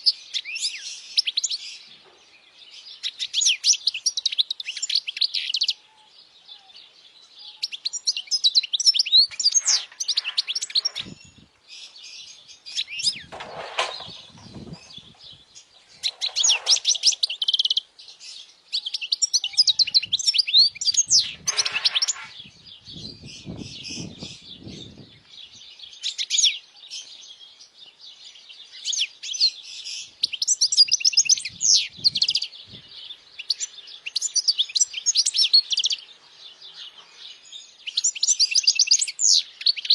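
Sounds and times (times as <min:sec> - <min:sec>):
bird twittering and chirping: 0:00.0 - 0:39.9.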